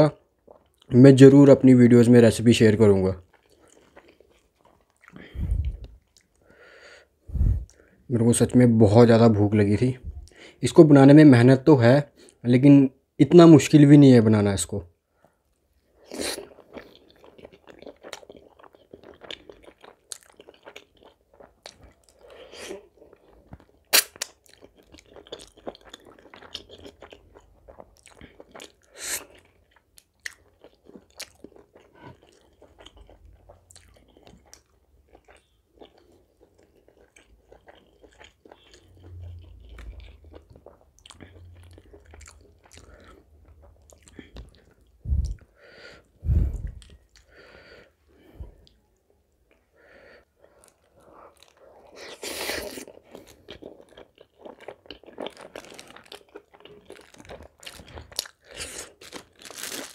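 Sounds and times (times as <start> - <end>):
man chewing food: 3.2 - 8.0, 15.5 - 59.9.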